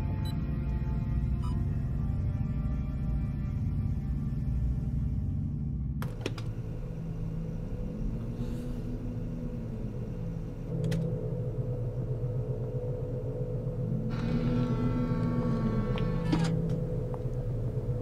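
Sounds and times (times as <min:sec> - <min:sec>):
faint hum: 0:00.0 - 0:18.0
low rumbling drone: 0:00.0 - 0:18.0.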